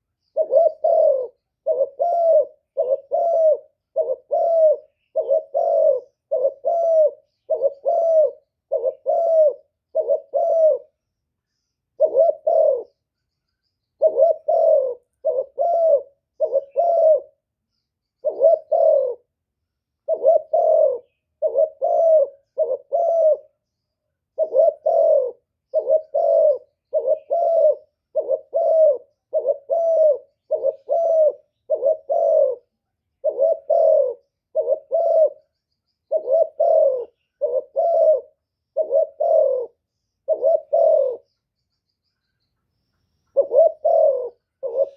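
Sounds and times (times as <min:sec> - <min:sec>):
dove cooing: 0:00.0 - 0:11.0, 0:12.0 - 0:13.0, 0:14.0 - 0:17.4, 0:18.2 - 0:19.4, 0:20.0 - 0:23.6, 0:24.3 - 0:41.4, 0:43.3 - 0:44.9.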